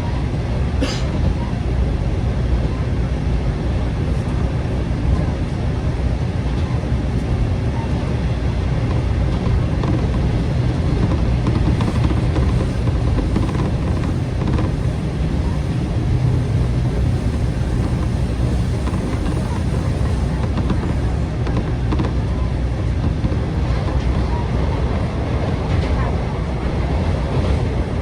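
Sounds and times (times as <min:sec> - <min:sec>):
train engine and wheels drone: 0:00.0 - 0:28.0.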